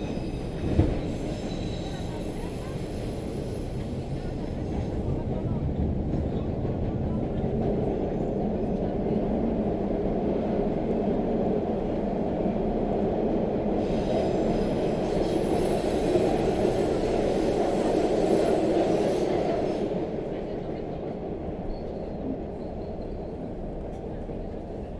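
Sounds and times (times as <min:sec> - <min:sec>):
subway train rumbling on rails: 0:00.0 - 0:24.9.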